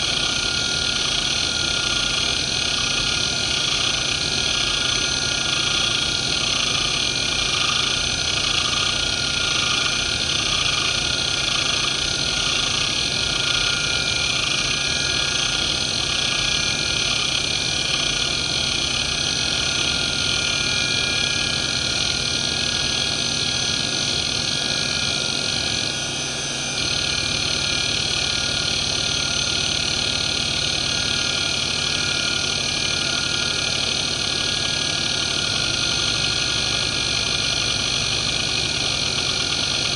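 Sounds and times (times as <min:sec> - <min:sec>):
hard drive spindle whine: 0:00.0 - 0:39.9.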